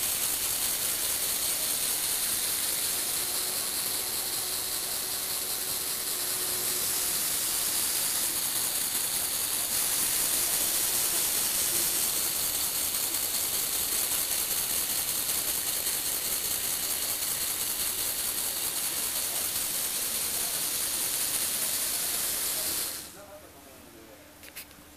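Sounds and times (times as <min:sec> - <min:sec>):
electric motors and gears whirring: 0:00.0 - 0:23.2.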